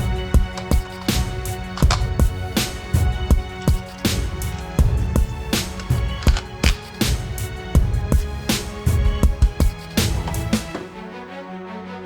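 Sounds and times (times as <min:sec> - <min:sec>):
instrumental music with drum beat: 0:00.0 - 0:10.9.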